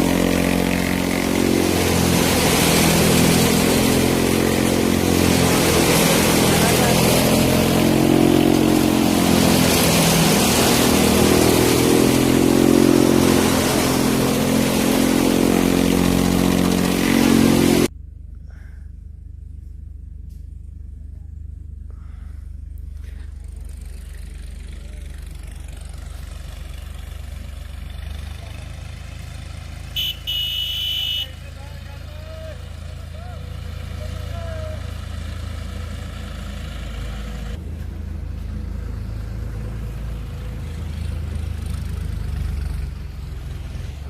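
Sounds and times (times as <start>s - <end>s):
diesel engine working under load: 0.0s - 44.0s
low engine hum: 0.0s - 44.0s.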